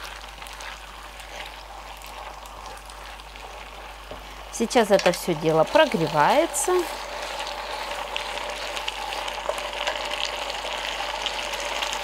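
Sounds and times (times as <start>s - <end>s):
pasta sizzling in skillet: 0.0s - 12.0s.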